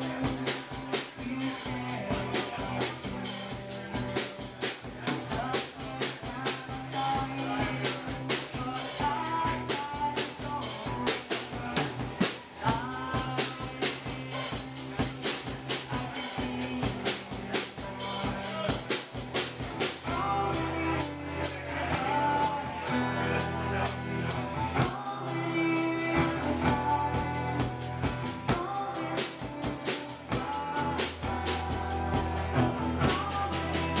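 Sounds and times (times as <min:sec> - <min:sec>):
drum kit beat: 0:00.0 - 0:34.0
rock band playing live: 0:00.0 - 0:34.0.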